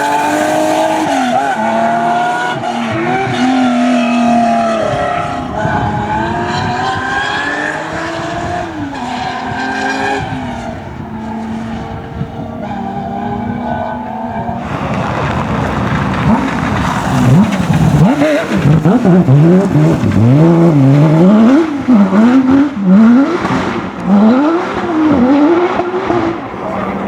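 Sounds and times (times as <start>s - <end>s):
racing car engine accelerating: 0.0s - 27.0s.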